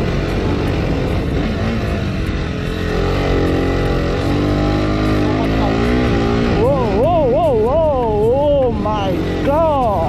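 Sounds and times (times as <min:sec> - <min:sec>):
motorcycle engine under load: 0:00.0 - 0:10.0.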